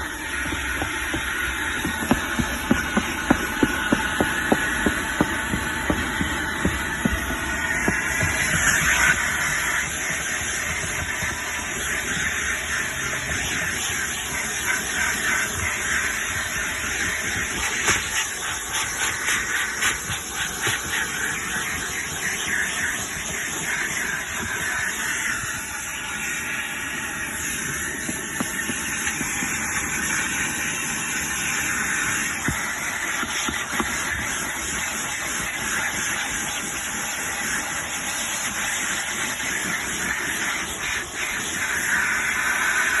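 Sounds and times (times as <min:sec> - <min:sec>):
car wash jets hissing: 0:00.0 - 0:43.0.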